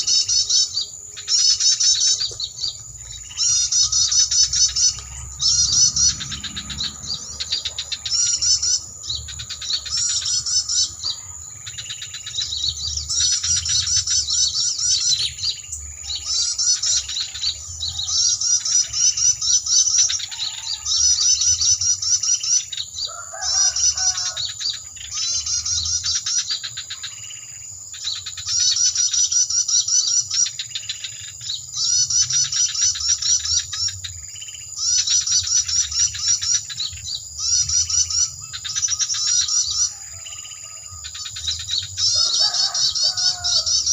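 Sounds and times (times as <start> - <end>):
high chirping bird trills: 0.0 - 43.9
lower bird call: 0.0 - 43.9.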